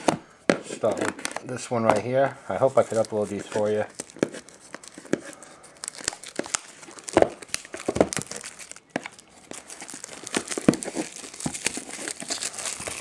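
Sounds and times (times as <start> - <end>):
plastic wrapping crinkling and tearing: 2.5 - 13.0.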